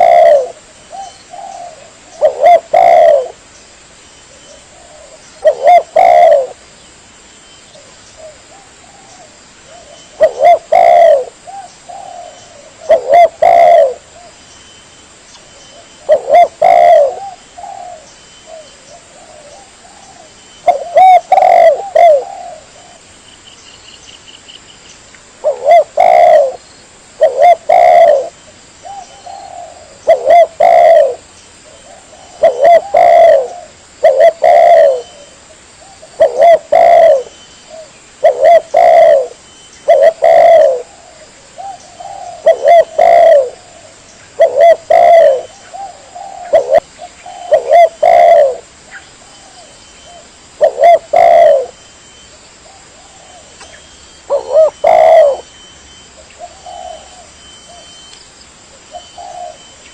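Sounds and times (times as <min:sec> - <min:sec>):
dove cooing: 0:00.0 - 0:03.4, 0:04.3 - 0:06.6, 0:07.8 - 0:14.4, 0:15.7 - 0:23.1, 0:25.4 - 0:26.6, 0:27.2 - 0:58.1, 0:58.8 - 0:59.9.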